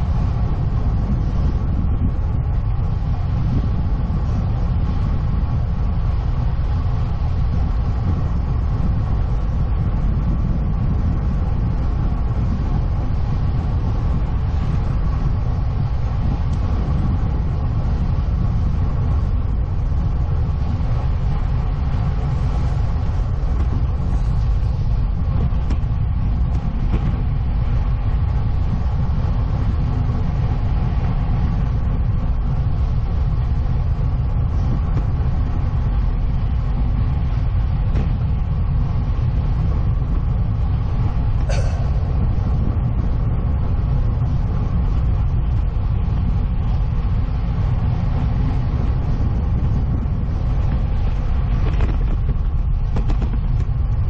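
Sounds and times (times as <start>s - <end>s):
bicycle tyre rumble: 0.0s - 54.0s
wind buffeting microphone: 0.0s - 54.0s.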